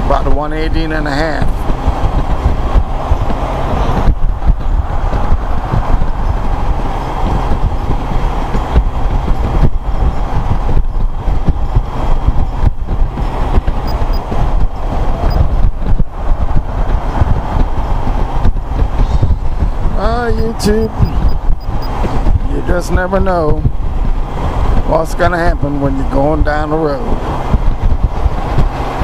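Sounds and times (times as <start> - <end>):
wind and road noise: 0.0 - 29.0
motorcycle engine: 1.2 - 24.8.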